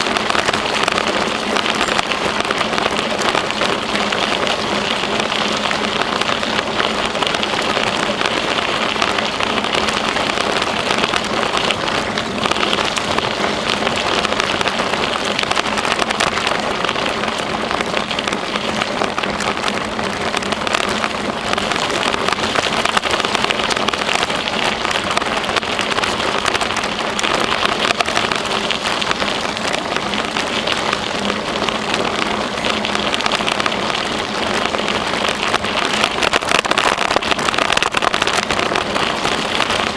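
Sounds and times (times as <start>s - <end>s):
bicycle tyres on path: 0.0s - 39.9s.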